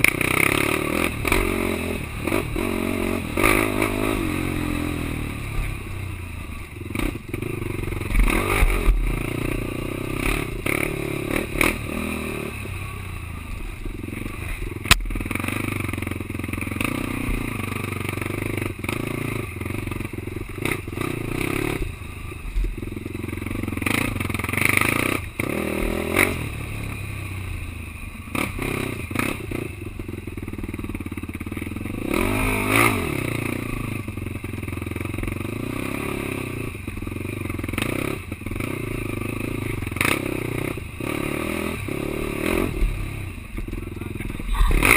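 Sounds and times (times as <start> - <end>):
quad engine revving: 0.0 - 6.0, 6.8 - 27.5, 28.2 - 30.2, 30.8 - 44.9.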